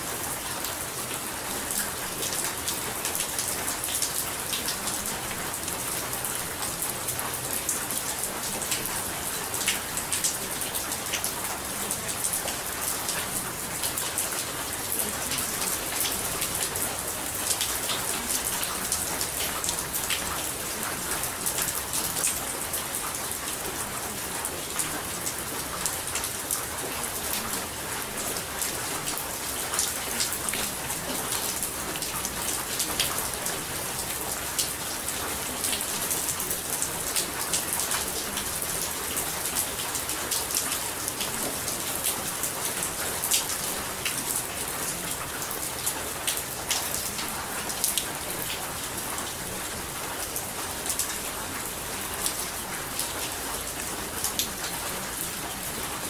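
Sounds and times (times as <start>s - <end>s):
rain falling with drops ticking: 0.0s - 56.0s.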